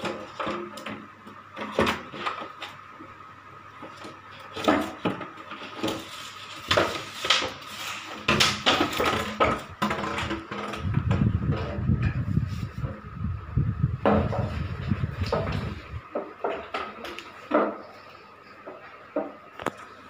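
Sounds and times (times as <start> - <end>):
objects clattering and knocking: 0.0 - 3.0, 3.7 - 13.1, 13.9 - 19.9.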